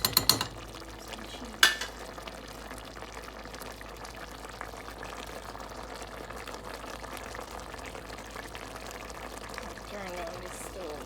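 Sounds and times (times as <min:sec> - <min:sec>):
sauce bubbling and popping: 0:00.1 - 0:10.6.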